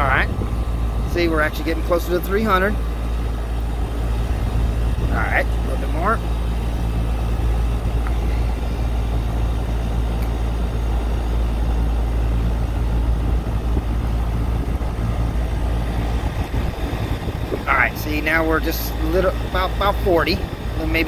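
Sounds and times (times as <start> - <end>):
air conditioning unit humming: 0.0 - 21.0.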